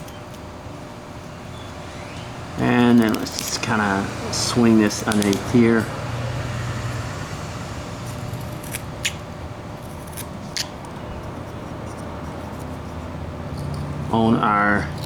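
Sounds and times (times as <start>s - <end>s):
knife scraping wood: 0.0s - 13.2s
background hum: 0.0s - 15.0s.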